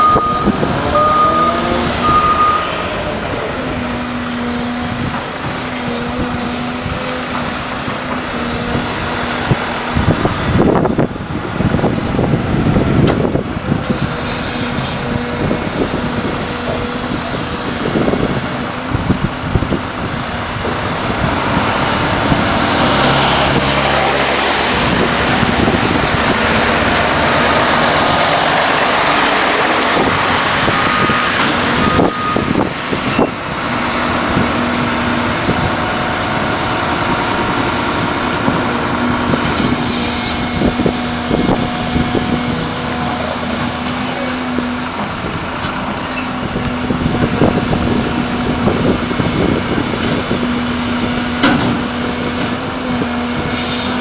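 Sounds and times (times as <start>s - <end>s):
excavator diesel engine running: 0.0s - 54.0s
truck passing on wet road: 0.0s - 54.0s.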